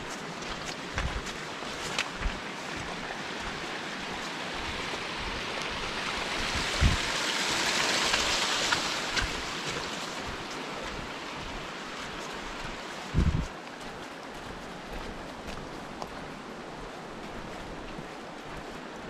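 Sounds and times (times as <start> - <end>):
footsteps on gravel: 0.0 - 5.4, 8.0 - 19.0
stream running water: 0.0 - 19.0.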